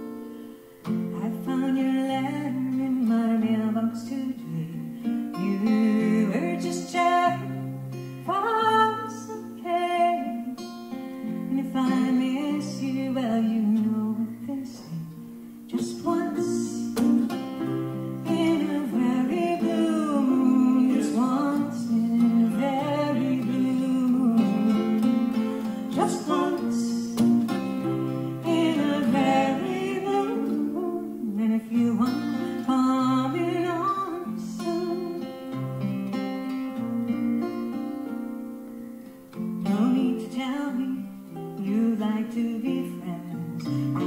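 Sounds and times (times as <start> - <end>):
acoustic guitar: 0.0 - 44.0
ukulele: 0.0 - 44.0
person singing: 1.1 - 10.7, 11.5 - 35.6, 39.6 - 44.0.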